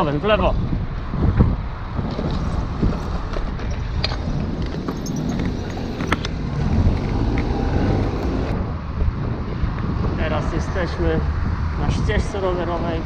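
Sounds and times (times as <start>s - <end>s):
bicycle road noise: 0.0s - 13.0s
wind on microphone: 0.0s - 13.0s.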